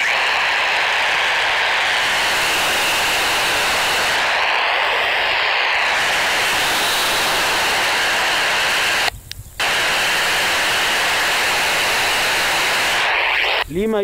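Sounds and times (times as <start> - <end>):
radio receiver hiss: 0.0 - 14.0.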